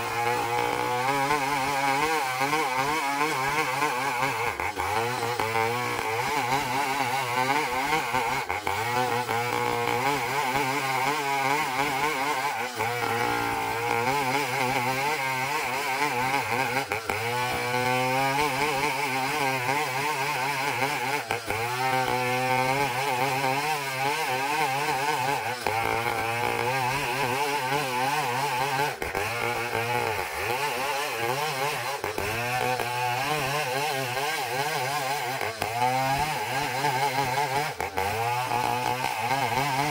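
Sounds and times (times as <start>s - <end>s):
engine-driven saw cutting log: 0.0s - 39.9s.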